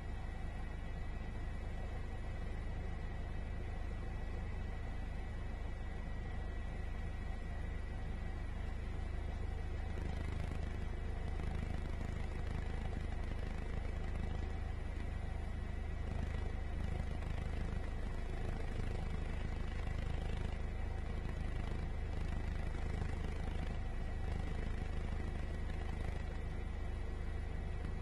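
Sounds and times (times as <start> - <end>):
helicopter cabin drone: 0.0 - 28.0.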